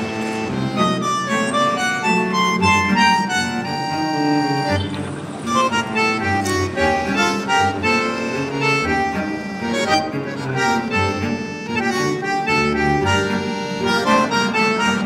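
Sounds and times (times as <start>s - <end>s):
instrumental music with bass line: 0.0s - 15.0s.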